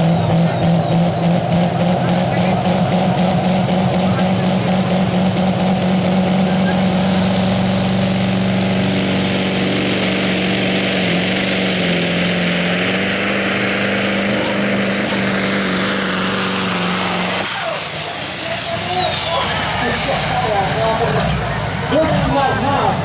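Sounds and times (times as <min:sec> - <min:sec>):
diesel engine under load: 0:00.0 - 0:23.0
high whine: 0:00.0 - 0:23.0.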